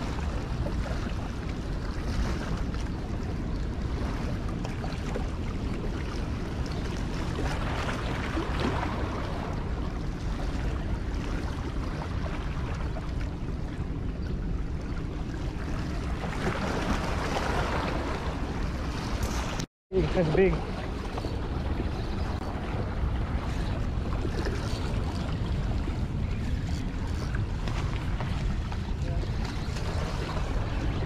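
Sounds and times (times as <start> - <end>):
rushing water: 0.0 - 31.0
wind rumbling on microphone: 0.0 - 31.0.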